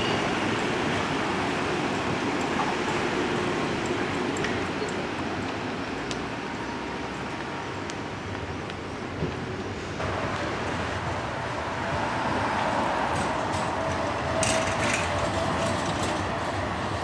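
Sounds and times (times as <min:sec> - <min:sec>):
approaching tram hum: 0:00.0 - 0:17.0
tram rumbling: 0:00.0 - 0:17.0.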